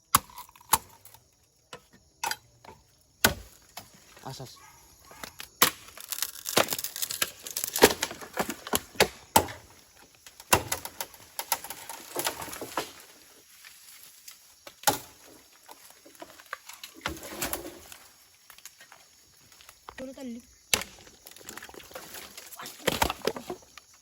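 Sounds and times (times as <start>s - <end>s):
bamboo knocking and cracking: 0.0s - 4.3s, 5.1s - 20.1s, 20.7s - 24.0s.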